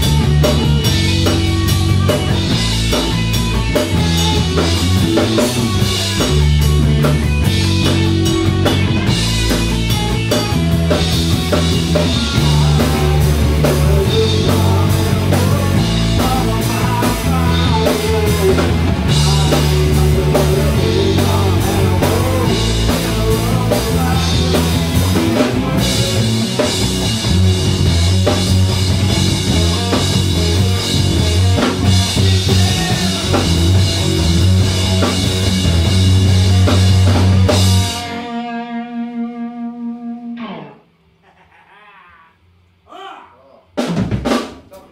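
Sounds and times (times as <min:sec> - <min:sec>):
drum kit: 0:00.0 - 0:38.8, 0:43.7 - 0:44.9
bass guitar: 0:00.0 - 0:41.3
electric guitar: 0:00.0 - 0:41.6.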